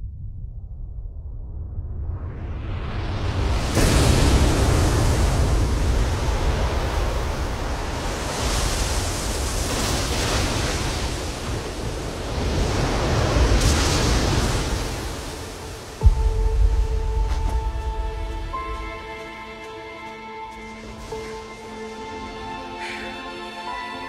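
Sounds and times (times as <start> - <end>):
sea waves crashing: 3.1 - 24.0.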